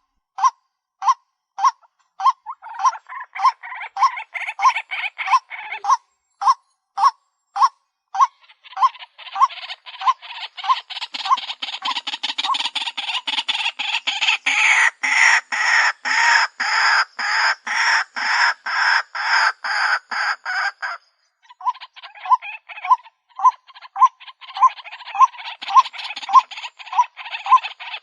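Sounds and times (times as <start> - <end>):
waterhen calling harsh notes: 0.4 - 28.0.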